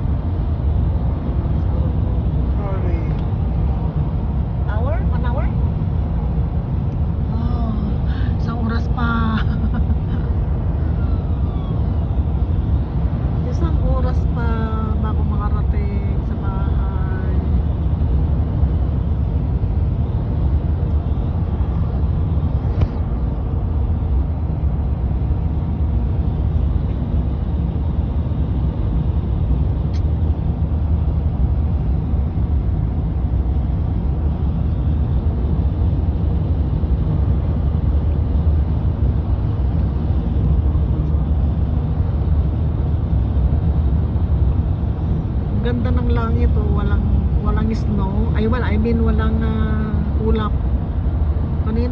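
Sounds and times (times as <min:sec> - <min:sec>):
road and engine rumble in car: 0:00.0 - 0:51.9.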